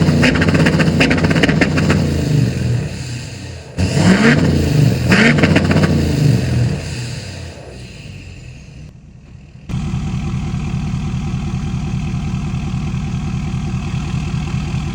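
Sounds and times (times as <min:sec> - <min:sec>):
diesel truck engine idling: 0:00.0 - 0:14.9.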